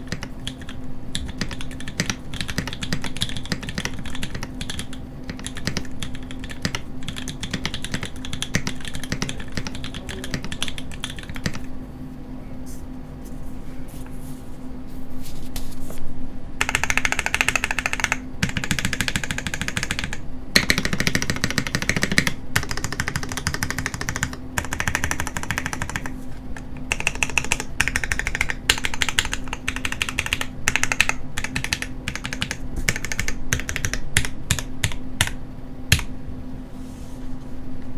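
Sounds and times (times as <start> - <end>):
mechanical keyboard typing clacks: 0.0 - 11.7, 16.6 - 36.1.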